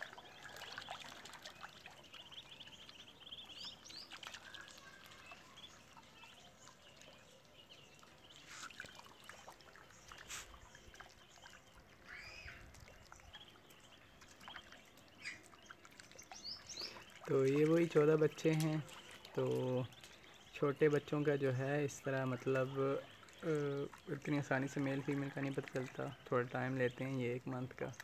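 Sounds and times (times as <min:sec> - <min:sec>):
ducklings peeping: 0:00.0 - 0:28.0
water trickling and splashing: 0:00.0 - 0:28.0.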